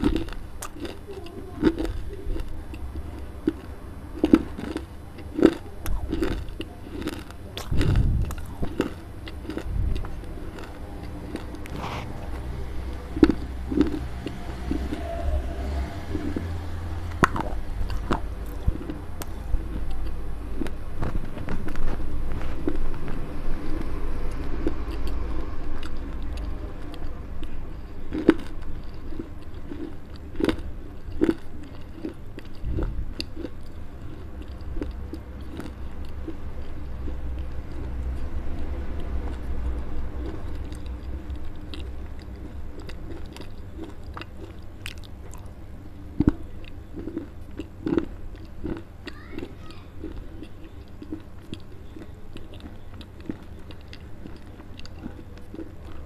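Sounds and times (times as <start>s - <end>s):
chewing and crunching clay: 0.0s - 56.0s.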